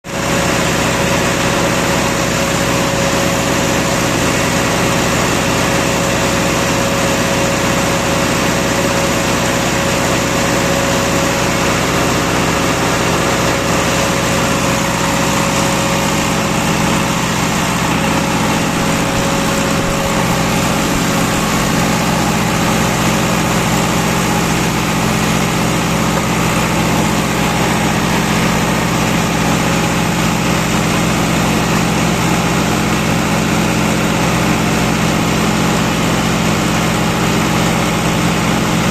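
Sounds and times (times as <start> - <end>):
diesel generator running: 0.0 - 38.9.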